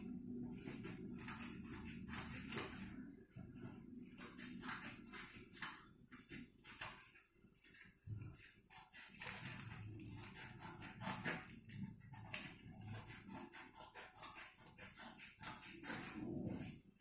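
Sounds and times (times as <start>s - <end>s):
scissors cutting paper plate: 0.5s - 3.0s, 4.0s - 17.0s.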